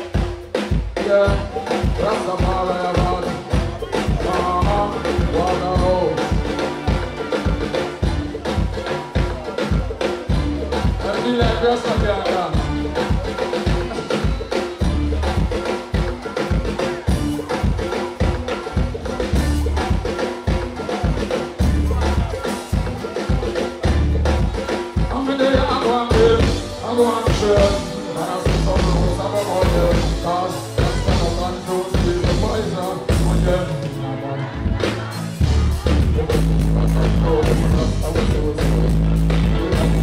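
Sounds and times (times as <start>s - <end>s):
live dancehall band music: 0.0s - 40.0s
person singing: 1.0s - 14.6s, 15.2s - 40.0s.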